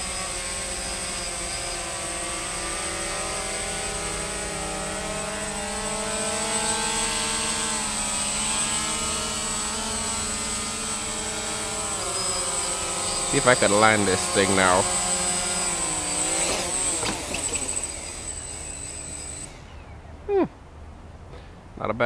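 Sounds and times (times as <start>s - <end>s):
quadcopter propellers humming: 0.0s - 21.6s.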